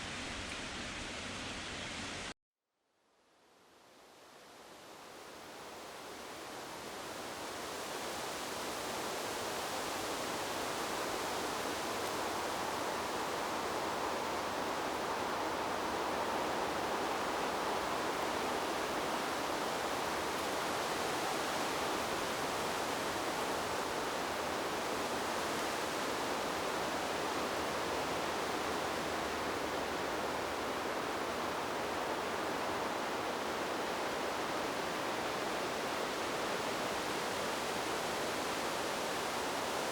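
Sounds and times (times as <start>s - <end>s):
wind blowing through trees: 0.0s - 2.3s, 3.5s - 39.9s.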